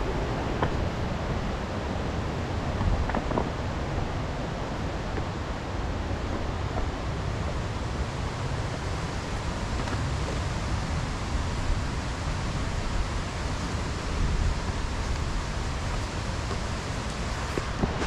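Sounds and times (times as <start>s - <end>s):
mountain stream rushing: 0.0s - 18.0s
wind on microphone: 0.0s - 18.0s.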